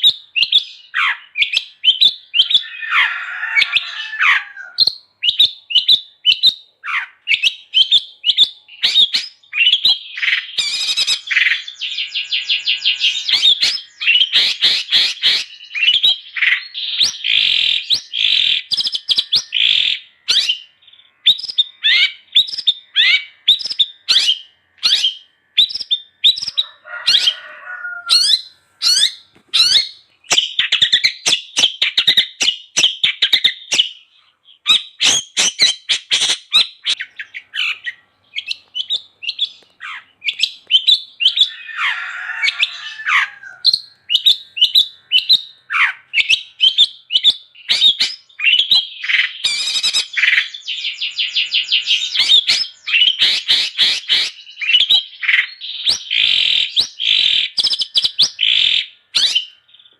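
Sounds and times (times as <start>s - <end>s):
shrike singing: 0.0s - 59.6s.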